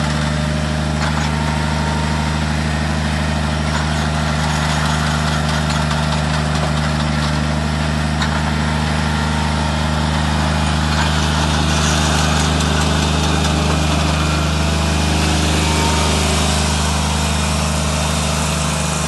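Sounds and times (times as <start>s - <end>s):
aerator engine running: 0.0s - 19.0s.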